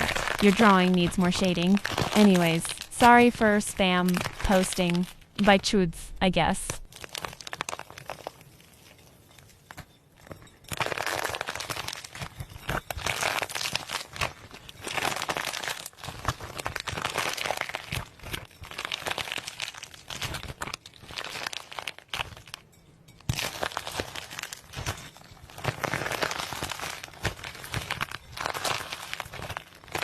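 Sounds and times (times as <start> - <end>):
crinkling rustling: 0.0 - 30.0.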